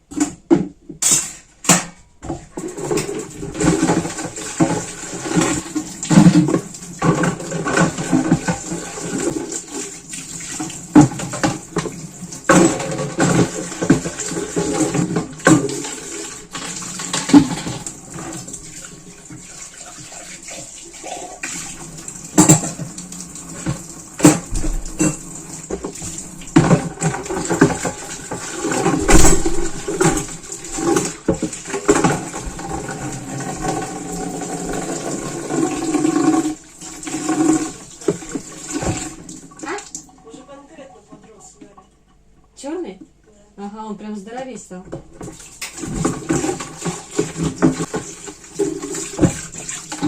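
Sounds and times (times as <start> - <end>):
water running: 2.5 - 43.0, 43.6 - 50.0.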